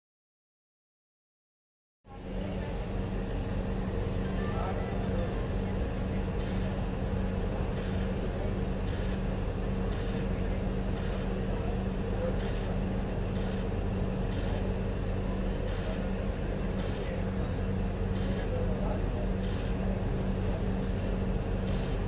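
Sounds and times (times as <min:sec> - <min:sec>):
passenger train running hum: 0:02.1 - 0:22.0.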